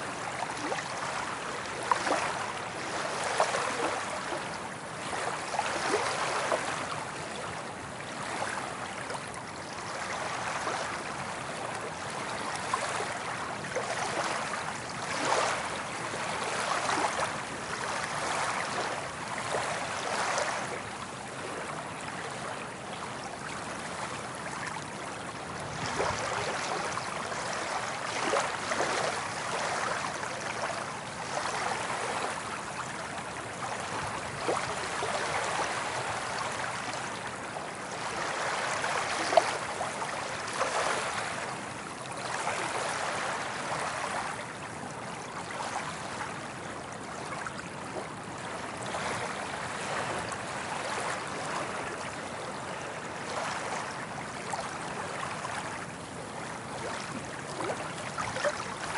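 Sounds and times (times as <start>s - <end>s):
ocean waves washing on beach: 0.0s - 58.9s.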